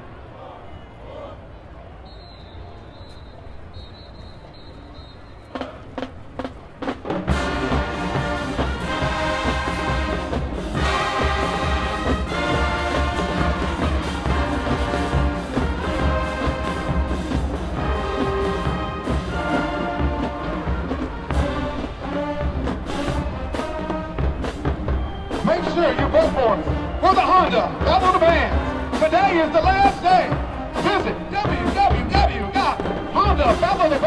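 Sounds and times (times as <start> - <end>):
marching band playing: 4.0 - 34.0
drum strokes: 5.6 - 34.0.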